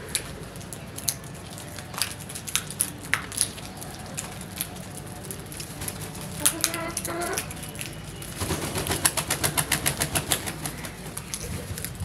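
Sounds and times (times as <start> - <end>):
beaks pecking on concrete: 0.0 - 12.0.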